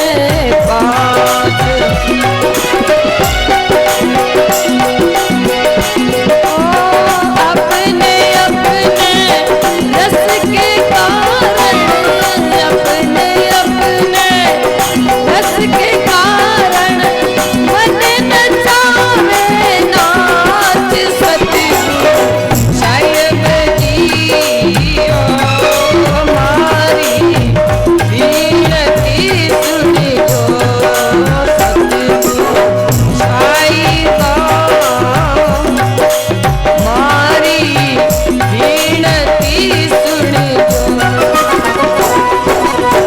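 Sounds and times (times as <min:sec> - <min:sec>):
hand drum: 0:00.0 - 0:43.0
jingling rattle percussion: 0:00.0 - 0:43.0.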